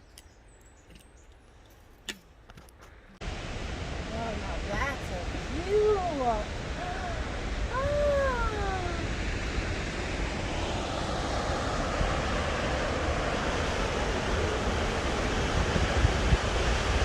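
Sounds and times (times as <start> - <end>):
wind rumble on microphone: 3.2 - 17.0
waterfall roaring: 3.3 - 17.0.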